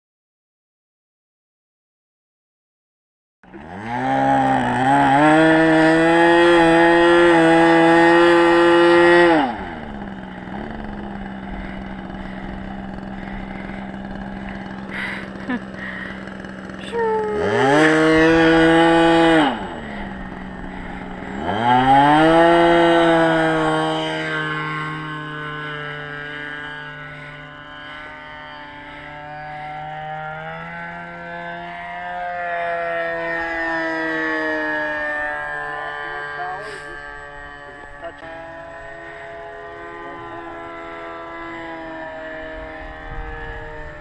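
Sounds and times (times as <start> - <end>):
model airplane engine revving: 3.5 - 44.0.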